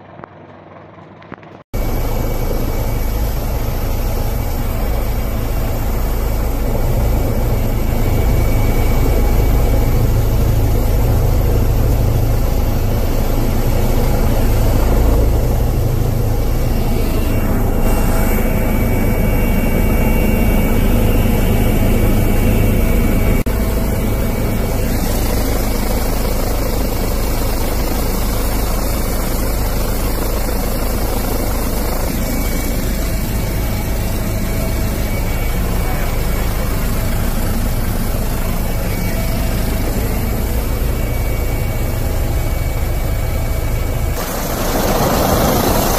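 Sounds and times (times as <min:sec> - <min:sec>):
helicopter rotor and turbine drone: 0:00.0 - 0:45.9.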